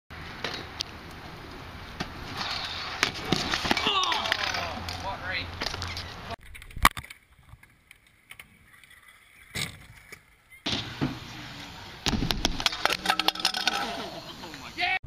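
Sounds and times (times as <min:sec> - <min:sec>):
scooter wheels rolling on concrete: 0:00.2 - 0:14.9.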